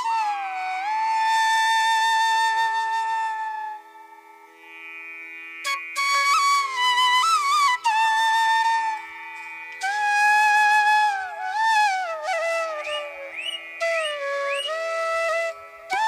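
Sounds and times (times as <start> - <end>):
flute playing slow melody: 0.0 - 4.5, 5.6 - 16.0.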